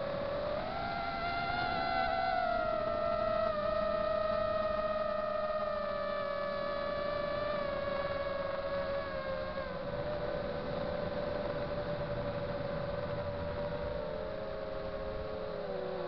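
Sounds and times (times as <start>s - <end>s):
low rumble of wind: 0.0s - 16.0s
quadcopter motors whining: 0.0s - 16.0s.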